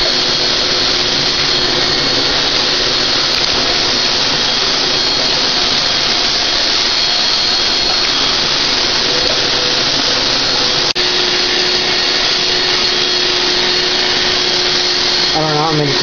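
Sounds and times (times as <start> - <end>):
spray turbine hissing: 0.0 - 16.0.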